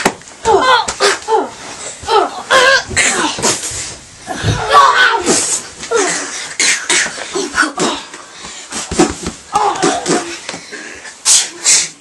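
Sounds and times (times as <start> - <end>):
children grunting and gasping: 0.4 - 12.0.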